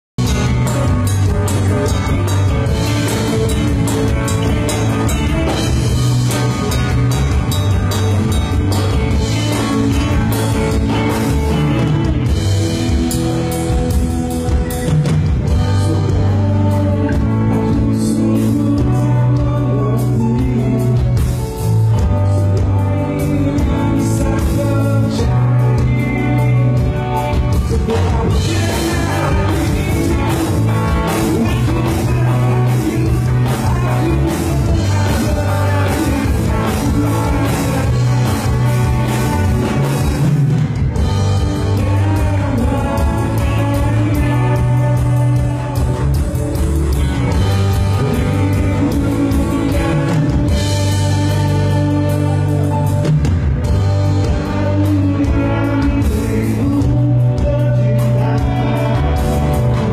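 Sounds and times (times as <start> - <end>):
bass guitar: 0.0 - 59.9
drum kit: 0.1 - 59.9
electric guitars: 0.2 - 59.9
person singing: 0.2 - 59.9.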